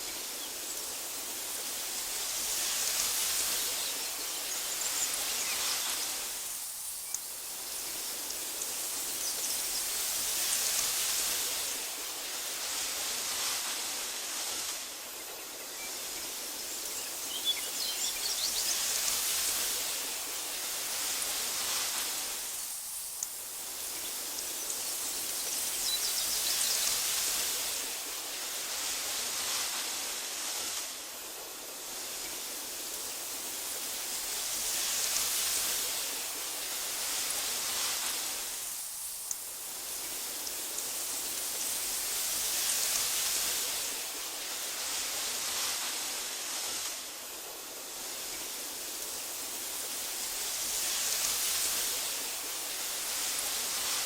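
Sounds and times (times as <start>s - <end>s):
breeze rustling through grass: 0.0s - 54.0s.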